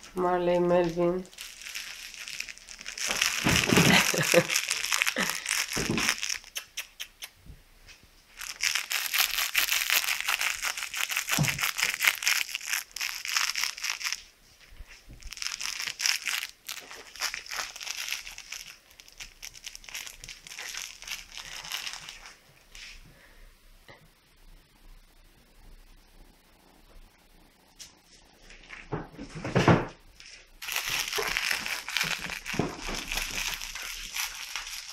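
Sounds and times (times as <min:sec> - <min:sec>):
rustling crinkling noise: 0:00.0 - 0:23.1, 0:27.6 - 0:34.9.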